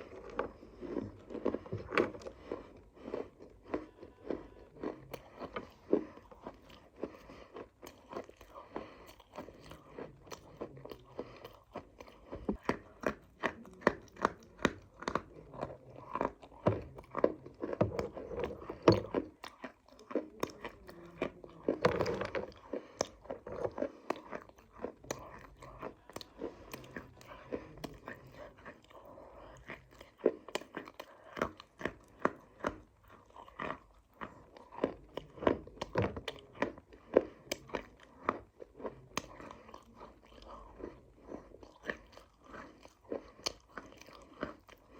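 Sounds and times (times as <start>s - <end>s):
crunching and chewing dry clay: 0.0s - 44.9s.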